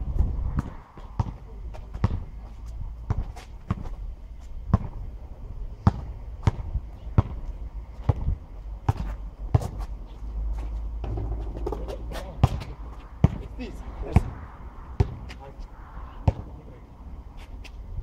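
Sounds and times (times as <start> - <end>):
steady low rumble: 0.0 - 18.0
basketball bouncing on asphalt: 0.1 - 5.1, 5.8 - 15.4, 16.2 - 16.6.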